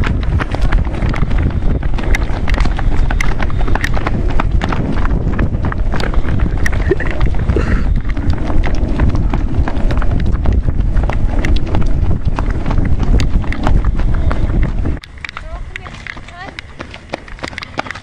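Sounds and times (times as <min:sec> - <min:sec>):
runners footsteps on pavement: 0:00.0 - 0:18.0
wind rumble on microphone: 0:00.0 - 0:18.0.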